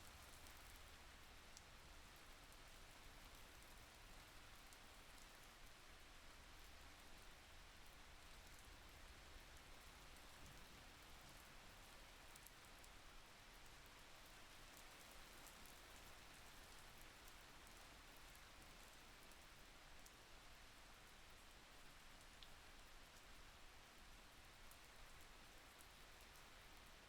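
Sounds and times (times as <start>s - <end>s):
faint steady rain: 0.0s - 27.0s.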